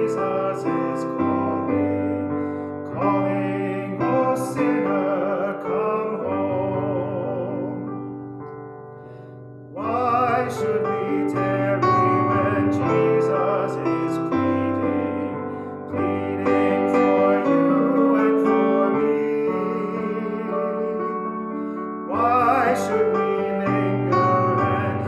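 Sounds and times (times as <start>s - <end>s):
person singing a hymn with vibrato: 0.0s - 8.1s, 9.8s - 25.0s
piano chords: 0.0s - 25.0s.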